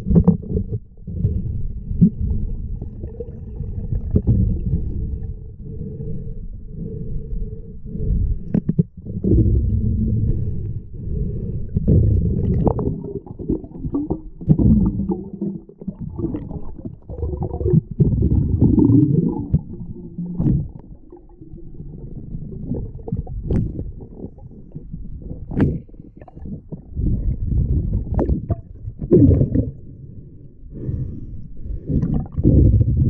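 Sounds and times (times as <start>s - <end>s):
underwater rumble: 0.0s - 33.0s.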